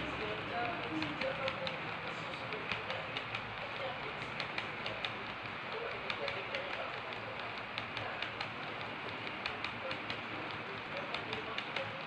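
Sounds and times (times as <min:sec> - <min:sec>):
wheels clicking over rails: 0:00.0 - 0:12.0.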